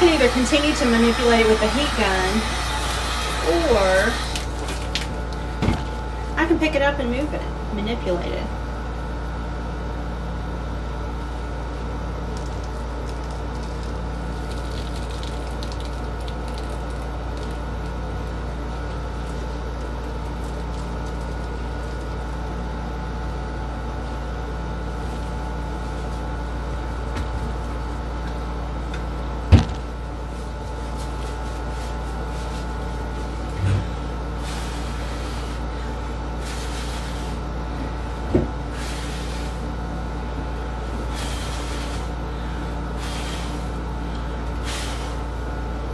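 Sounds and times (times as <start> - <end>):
appliance humming: 0.0 - 45.9.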